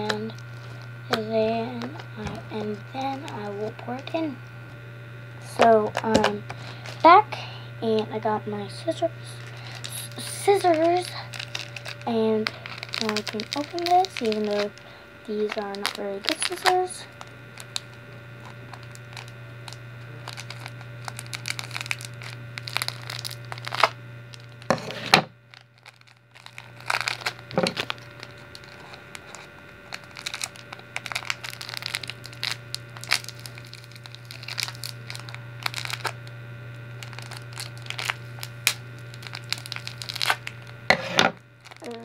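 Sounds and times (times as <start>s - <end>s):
foil pack crinkling and rustling: 0.0s - 4.3s, 5.4s - 42.0s
steady low hum: 0.0s - 42.0s.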